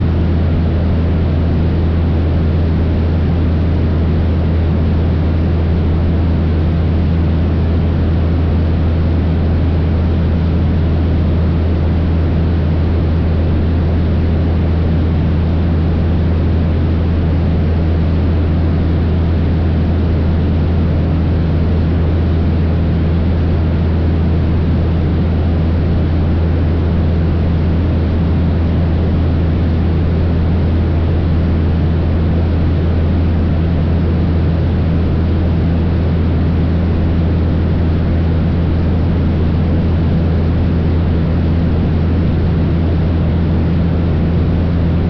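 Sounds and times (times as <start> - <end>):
propeller plane engine droning: 0.0 - 45.0.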